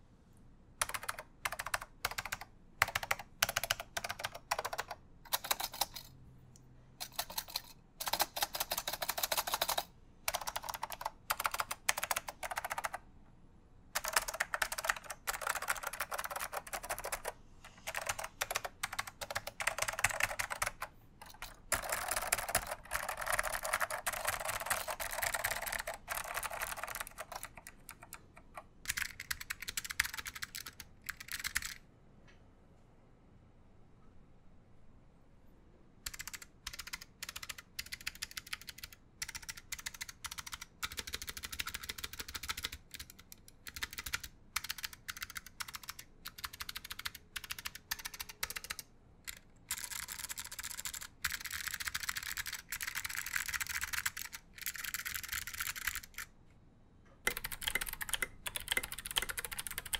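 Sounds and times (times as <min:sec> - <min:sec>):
mechanical keyboard typing: 0:00.8 - 0:06.2, 0:07.0 - 0:13.0, 0:14.0 - 0:31.8, 0:36.1 - 0:56.3, 0:57.3 - 0:59.9.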